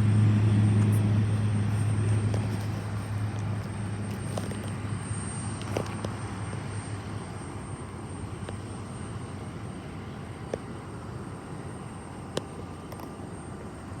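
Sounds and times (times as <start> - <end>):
turboprop aircraft hum: 0.0 - 14.0.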